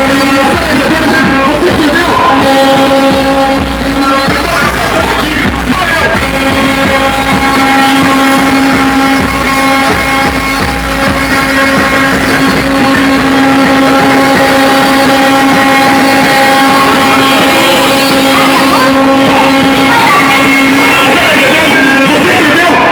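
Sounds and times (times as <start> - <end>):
loud music from car stereo: 0.0 - 22.9.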